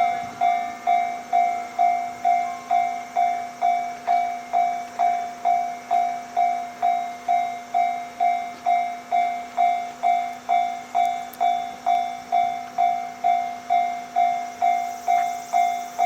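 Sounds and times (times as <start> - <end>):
level crossing bell ringing: 0.0 - 16.0.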